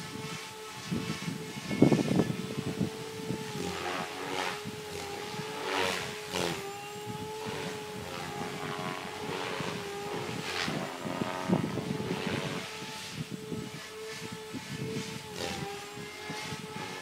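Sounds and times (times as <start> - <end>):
rc helicopter motor and rotor whine: 0.0 - 17.0.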